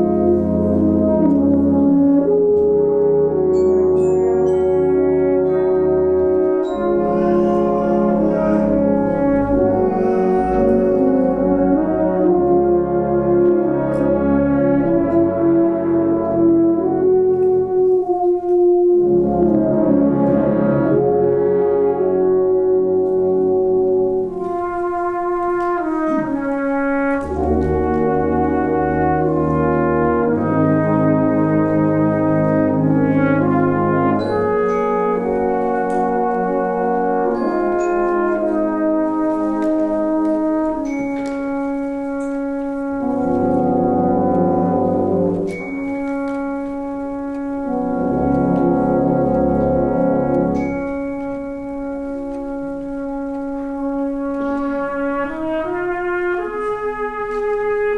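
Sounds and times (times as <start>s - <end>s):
brass band playing a hymn: 0.0s - 57.9s.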